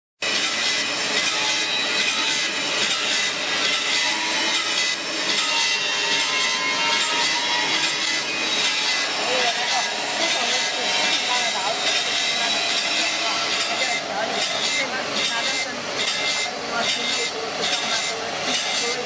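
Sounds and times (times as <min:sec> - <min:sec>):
saw blade grinding machine: 0:00.2 - 0:19.0.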